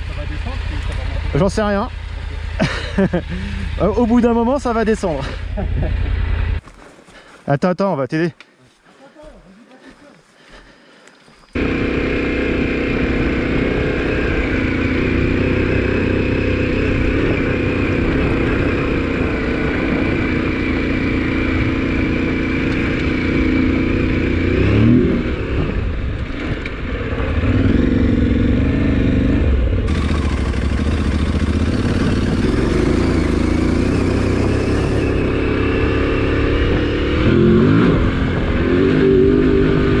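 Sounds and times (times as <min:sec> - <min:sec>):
motorcycle engine revving: 0:00.0 - 0:06.8, 0:11.5 - 0:40.0.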